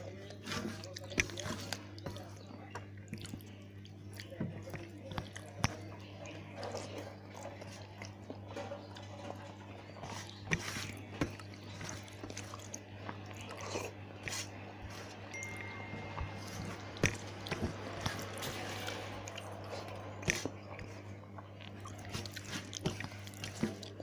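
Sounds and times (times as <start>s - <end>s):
person chewing food: 0.0s - 24.0s
steady low hum: 0.0s - 24.0s.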